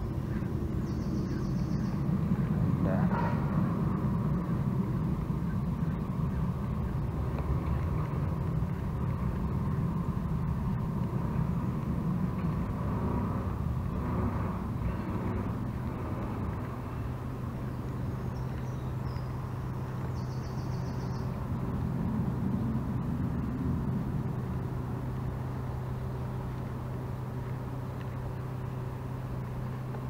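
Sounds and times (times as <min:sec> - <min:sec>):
low hum and rumble: 0:00.0 - 0:30.0.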